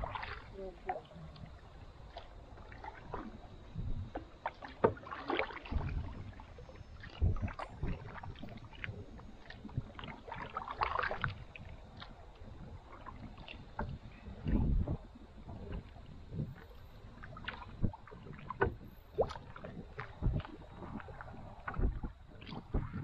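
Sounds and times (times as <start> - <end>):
paddle splashes and drips: 0.0 - 23.0.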